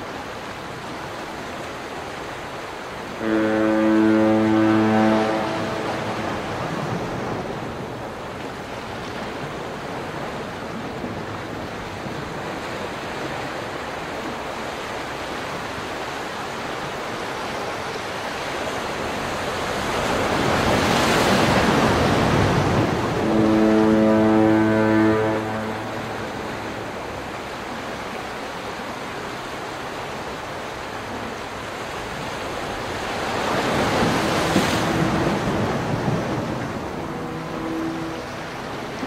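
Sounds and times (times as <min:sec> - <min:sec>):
ocean waves rushing: 0:00.0 - 0:39.0.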